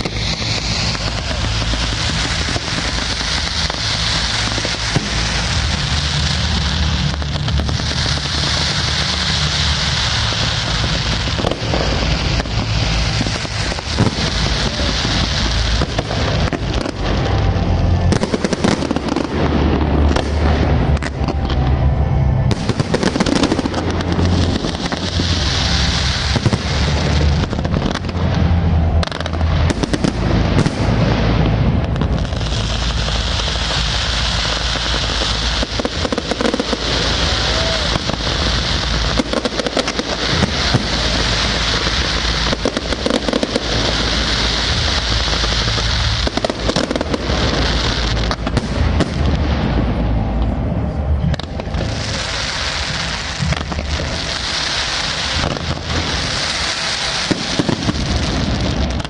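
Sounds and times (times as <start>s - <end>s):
fireworks booming and popping: 0.0s - 59.0s
fireworks hissing and crackling: 0.0s - 59.0s.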